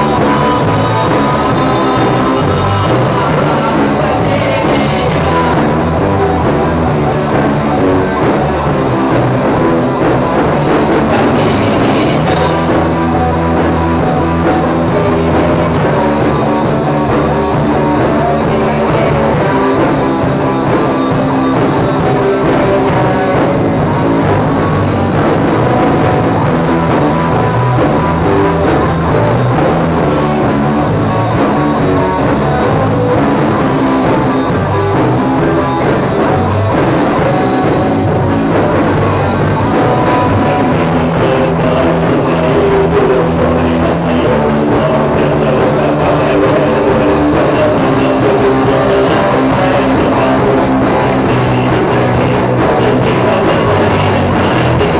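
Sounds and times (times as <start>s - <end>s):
drum kit: 0.0s - 54.9s
electric guitar riff: 0.0s - 54.9s.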